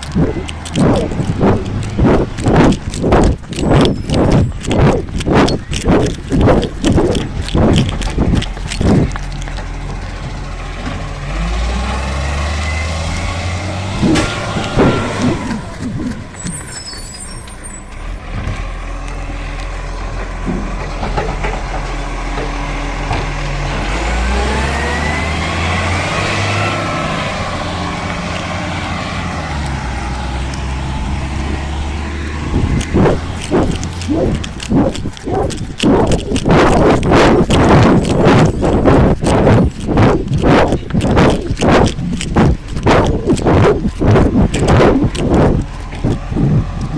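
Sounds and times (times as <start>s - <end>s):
garbage truck diesel engine revving: 0.0s - 46.9s.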